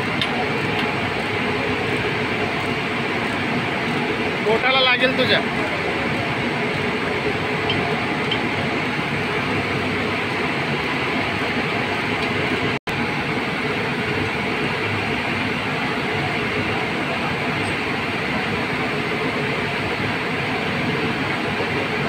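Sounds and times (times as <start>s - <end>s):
rail machinery rushing hum: 0.0s - 22.0s.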